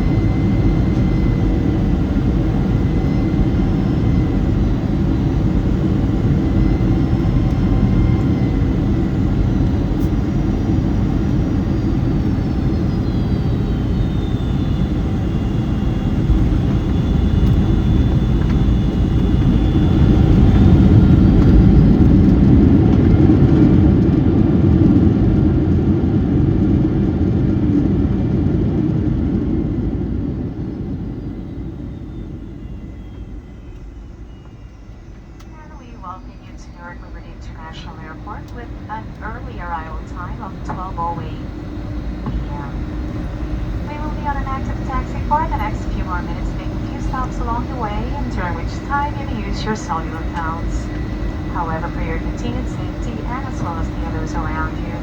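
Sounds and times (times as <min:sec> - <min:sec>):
jet engine rumble: 0:00.0 - 0:55.0
thin engine whine: 0:00.0 - 0:55.0.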